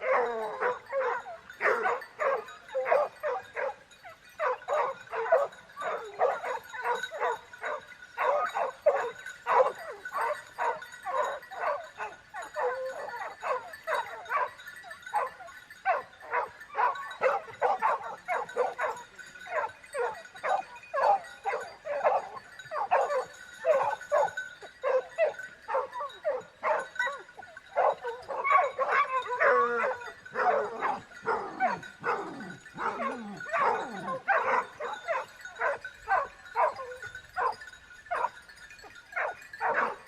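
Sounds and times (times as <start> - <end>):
dog barking and yapping: 0.0 - 40.0.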